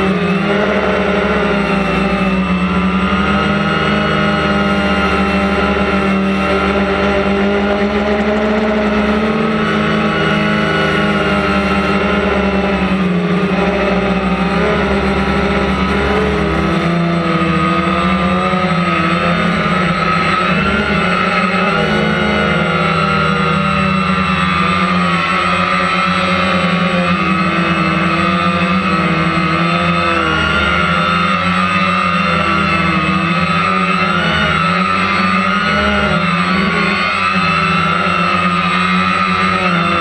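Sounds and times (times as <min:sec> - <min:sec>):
drone propellers buzzing: 0:00.0 - 0:40.0.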